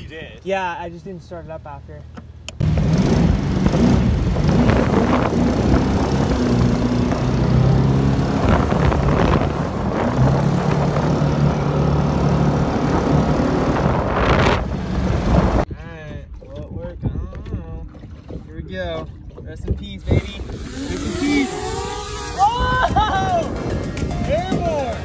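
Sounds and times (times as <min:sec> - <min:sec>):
boat engine running: 0:01.8 - 0:15.7, 0:17.8 - 0:25.0.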